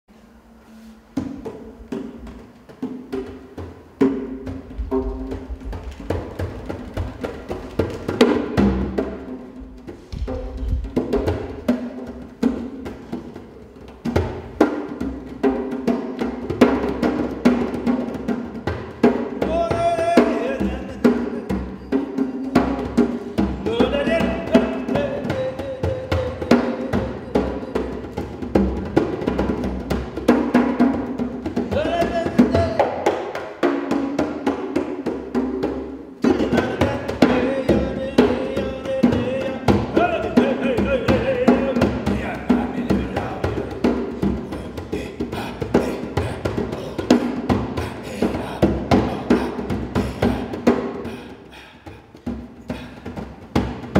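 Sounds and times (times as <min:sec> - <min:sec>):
pitched hand percussion notes: 0:00.9 - 0:53.9.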